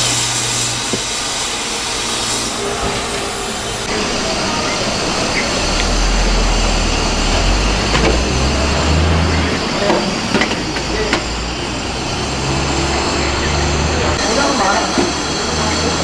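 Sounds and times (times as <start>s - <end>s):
street food stall rumbling: 0.0s - 16.0s
faint voices: 2.5s - 16.0s.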